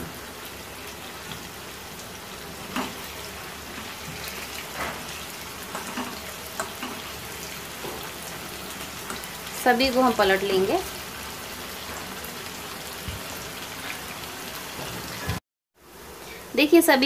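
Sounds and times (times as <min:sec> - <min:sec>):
meat sizzling in oil: 0:00.0 - 0:15.4.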